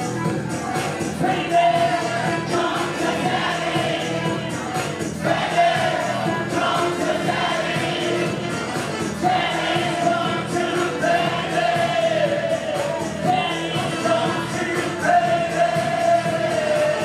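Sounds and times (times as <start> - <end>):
electronic music with beat: 0.0 - 17.0
man singing: 0.6 - 17.0.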